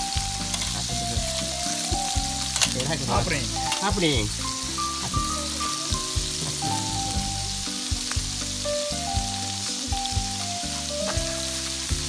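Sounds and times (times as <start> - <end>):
background music of held notes: 0.0 - 12.0
patties sizzling on a griddle: 0.0 - 12.0.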